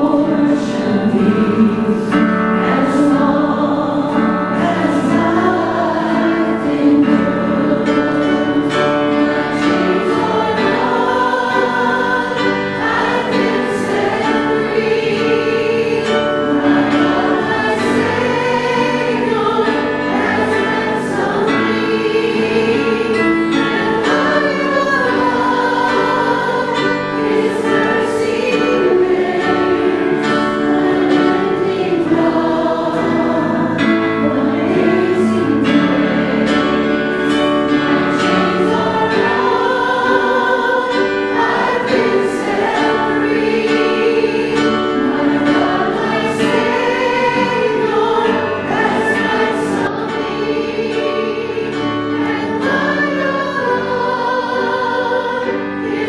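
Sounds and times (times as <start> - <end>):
church choir singing: 0.0 - 56.0.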